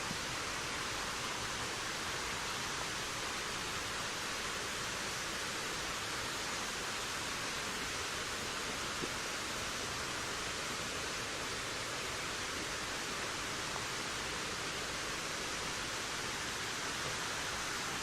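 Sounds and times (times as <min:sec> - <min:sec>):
wind blowing steadily: 0:00.0 - 0:18.0.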